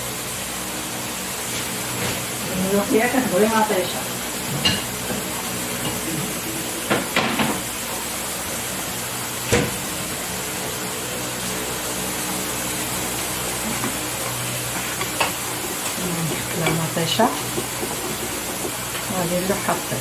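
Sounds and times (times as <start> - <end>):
food frying in a pot: 0.0 - 20.0.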